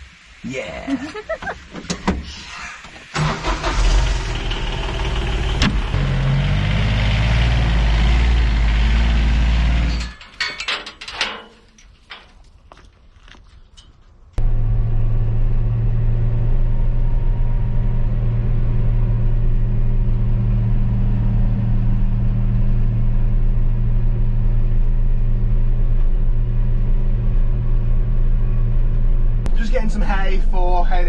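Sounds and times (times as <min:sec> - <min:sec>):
tractor engine running: 0:02.9 - 0:12.8, 0:14.2 - 0:31.0.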